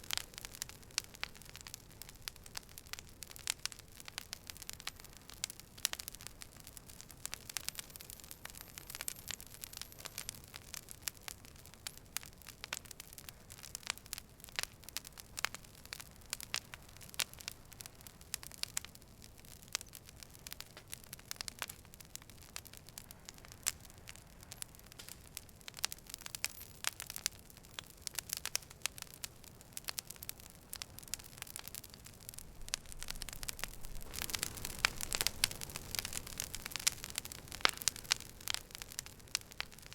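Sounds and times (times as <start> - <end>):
campfire crackling: 0.0 - 39.9
soft steady hiss: 0.0 - 39.9.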